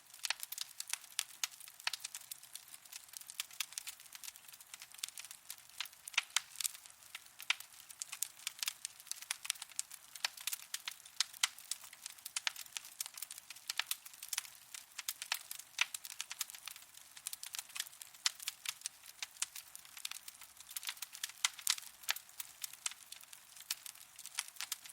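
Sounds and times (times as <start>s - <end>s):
faint fire hiss: 0.0s - 24.9s
wood fire crackling and popping: 0.0s - 24.9s.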